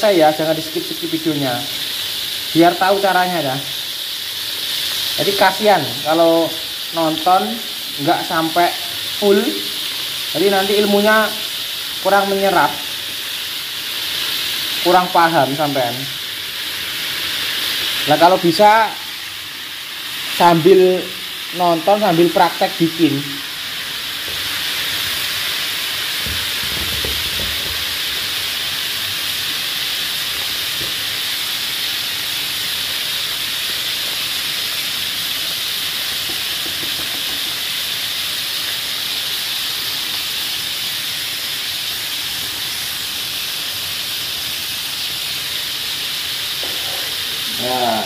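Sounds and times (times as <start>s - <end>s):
oil sizzling in a pan: 0.0s - 48.0s.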